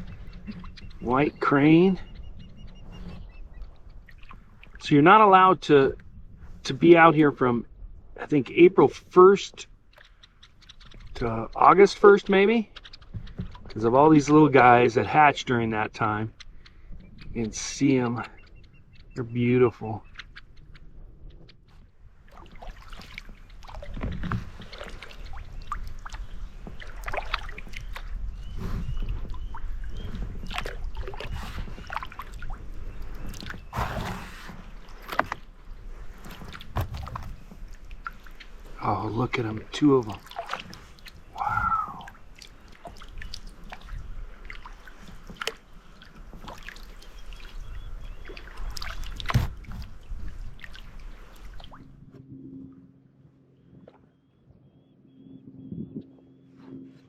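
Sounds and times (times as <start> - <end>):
paddle strokes splashing water: 0.0 - 5.3, 8.9 - 52.1
water lapping against hull: 0.0 - 57.0.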